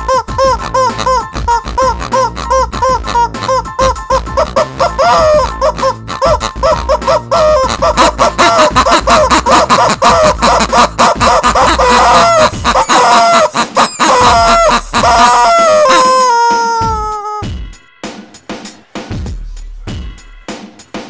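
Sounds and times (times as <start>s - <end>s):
rubber chicken squawk: 0.0s - 17.5s
squeaky rubber toy honks: 0.0s - 17.5s.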